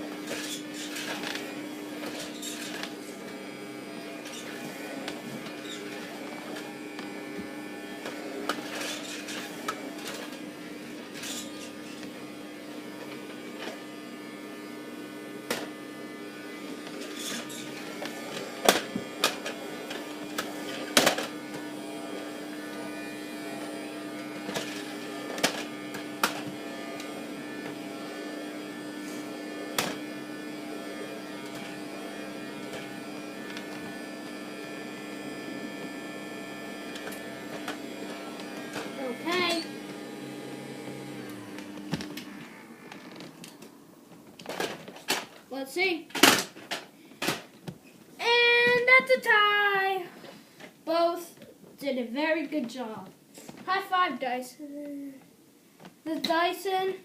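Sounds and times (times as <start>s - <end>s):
vacuum cleaner motors humming: 0.0s - 49.4s.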